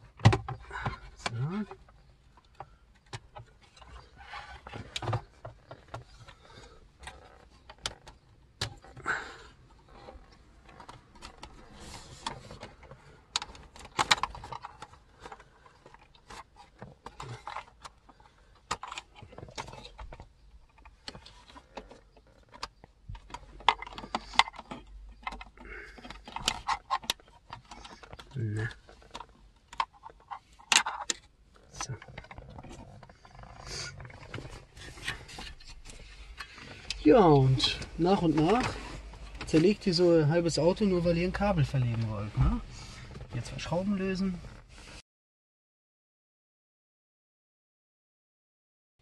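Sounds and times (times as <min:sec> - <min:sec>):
wiring and connectors handled: 0:00.0 - 0:42.5.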